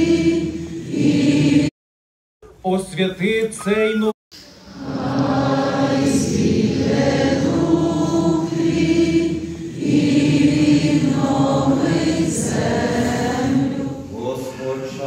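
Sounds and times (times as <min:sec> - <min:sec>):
choir singing a hymn: 0:00.0 - 0:01.7, 0:04.5 - 0:15.0.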